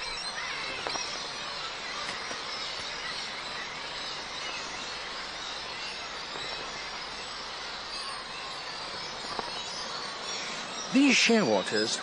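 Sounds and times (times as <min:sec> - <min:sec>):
background hiss: 0:00.0 - 0:12.0
faint bird chirps: 0:00.0 - 0:12.0.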